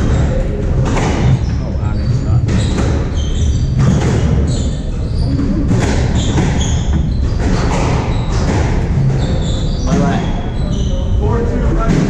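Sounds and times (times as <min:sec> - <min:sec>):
squash ball hits echoing: 0:00.0 - 0:10.5, 0:11.7 - 0:12.0
sneakers squeaking on wooden floor: 0:00.0 - 0:12.0.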